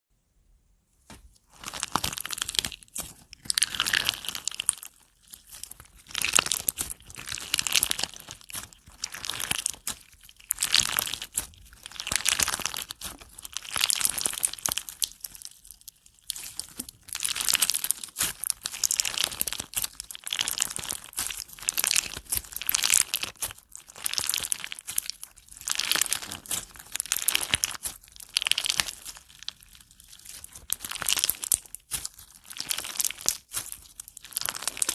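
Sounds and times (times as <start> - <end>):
slime crunching and crackling: 1.3 - 34.9.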